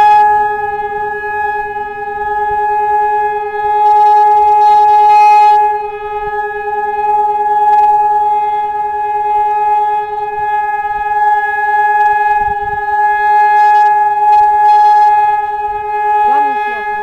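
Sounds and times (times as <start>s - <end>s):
air raid siren: 0.0s - 17.0s.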